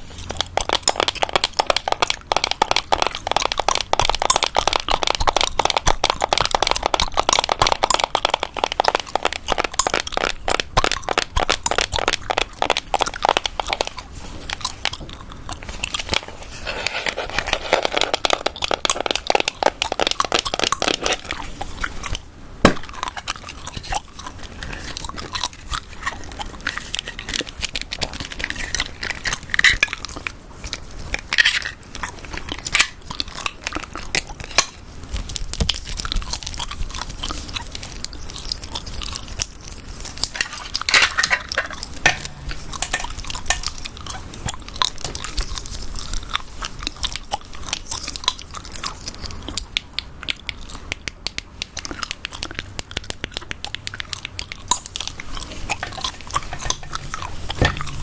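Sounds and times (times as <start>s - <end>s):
gum chewing clicks and smacks: 0.0s - 16.4s, 17.4s - 58.0s.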